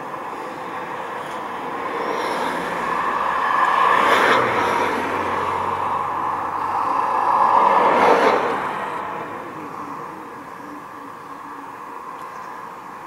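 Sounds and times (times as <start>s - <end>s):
strong gusty wind: 0.0s - 12.1s.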